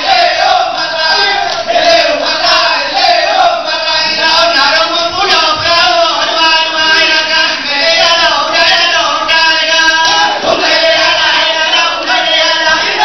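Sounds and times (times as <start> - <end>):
group of voices chanting: 0.0 - 13.0.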